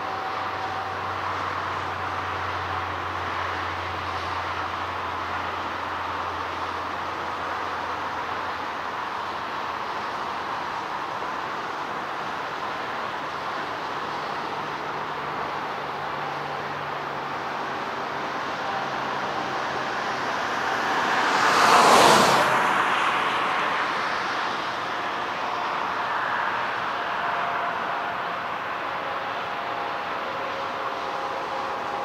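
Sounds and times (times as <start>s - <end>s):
jet engine rumble and hiss: 0.0s - 32.0s.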